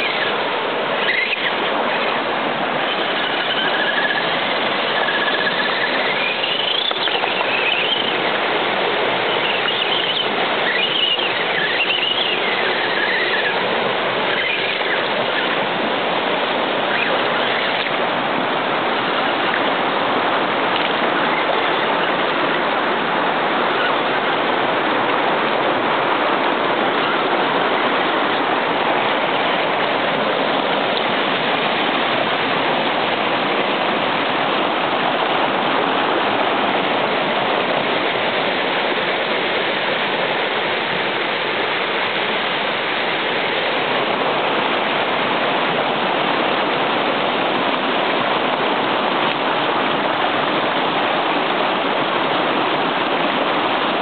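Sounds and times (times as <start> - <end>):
creek water rushing over rapids: 0.0 - 54.0.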